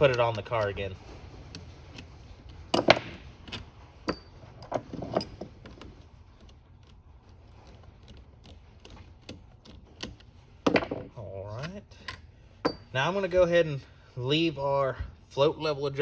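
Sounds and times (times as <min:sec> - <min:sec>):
metal parts and tools clinking: 0:00.0 - 0:13.5.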